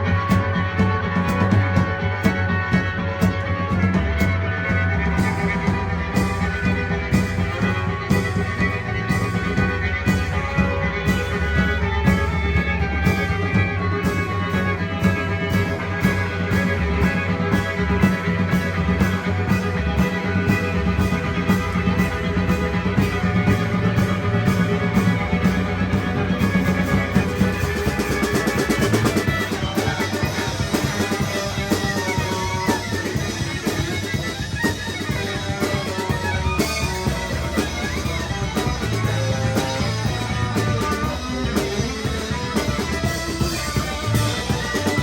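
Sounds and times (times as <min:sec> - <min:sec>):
bass guitar: 0:00.0 - 0:45.0
drum kit beat: 0:00.0 - 0:45.0
electric guitars: 0:00.0 - 0:45.0.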